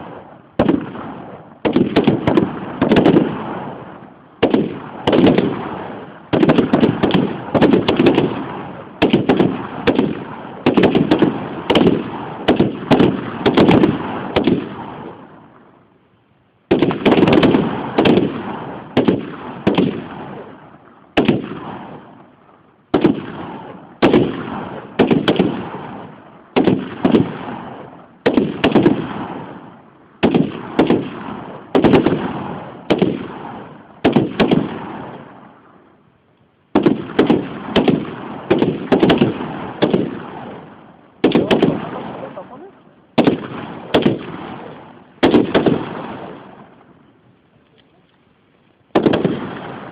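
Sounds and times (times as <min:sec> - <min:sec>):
rifle shots with echoing tail: 0:00.0 - 0:15.9, 0:16.7 - 0:36.0, 0:36.7 - 0:47.3, 0:48.9 - 0:49.9.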